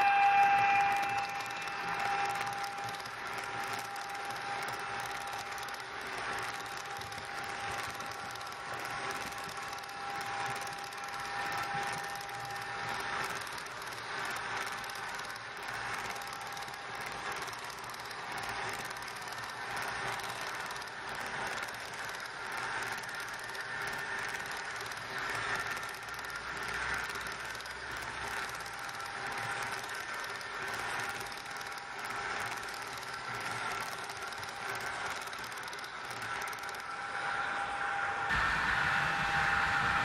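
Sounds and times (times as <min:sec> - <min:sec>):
model train wheels clattering: 0:00.0 - 0:37.3
steady whine: 0:00.0 - 0:40.0.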